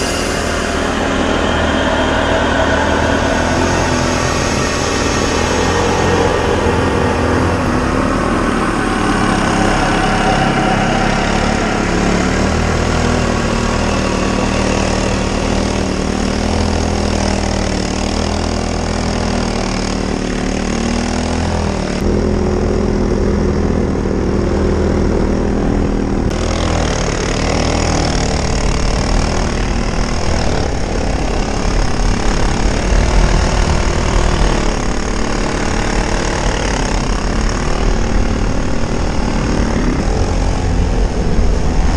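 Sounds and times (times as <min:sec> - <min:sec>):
snowmobile engine running: 0:00.0 - 0:41.9.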